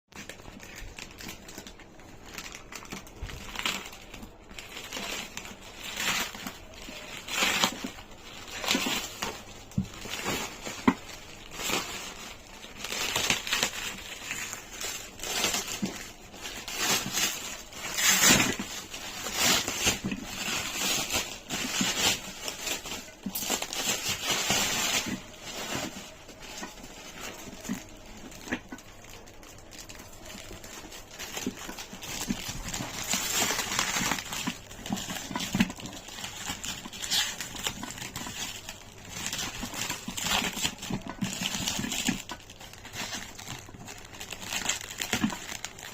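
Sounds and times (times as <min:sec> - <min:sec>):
packaging crinkling and rustling: 0:00.1 - 0:45.9.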